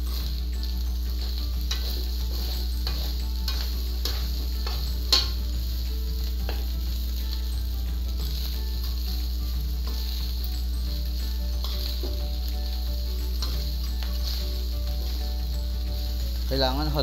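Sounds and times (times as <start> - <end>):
metal spatula scraping wok: 0.0 - 17.0
rice sizzling: 0.0 - 17.0
steady low hum: 0.0 - 17.0.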